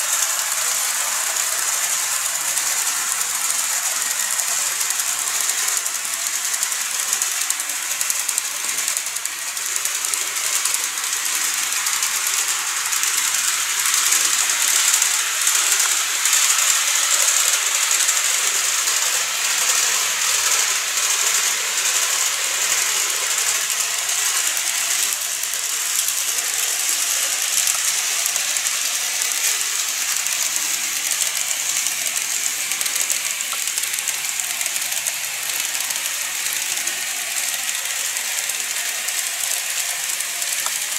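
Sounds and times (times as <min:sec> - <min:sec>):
model trains hissing and rattling: 0:00.0 - 0:40.9.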